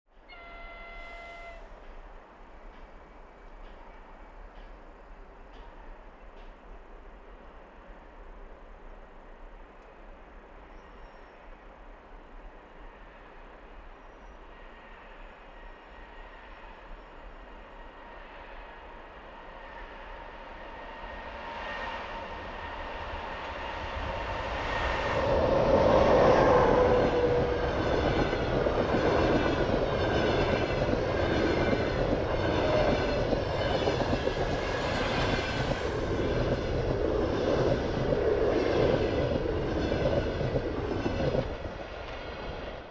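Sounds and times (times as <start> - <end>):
passenger train passing: 0.1 - 42.9.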